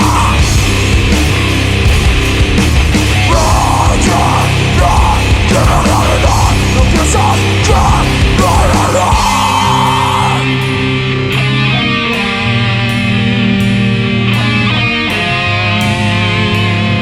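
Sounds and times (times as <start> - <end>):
heavy metal band playing live: 0.0 - 17.0.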